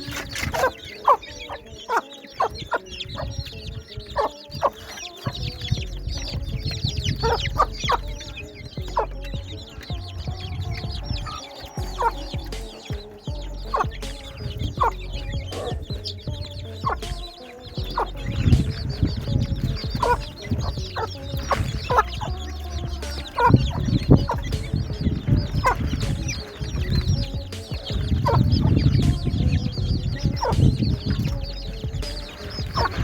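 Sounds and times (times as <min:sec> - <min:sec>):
baby chicks peeping: 0:00.0 - 0:33.0
hen clucking: 0:00.0 - 0:33.0
low rumble: 0:05.4 - 0:33.0.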